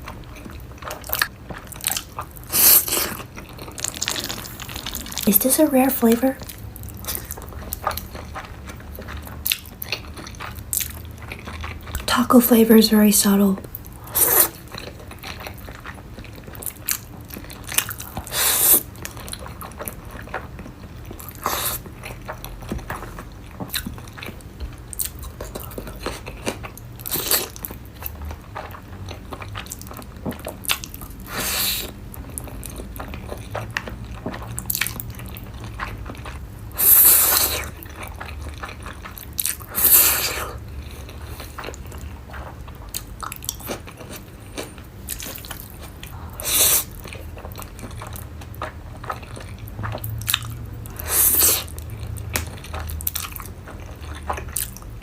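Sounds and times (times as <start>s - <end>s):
chewing and biting noodles: 0.0s - 5.5s, 6.4s - 12.1s, 13.8s - 55.0s.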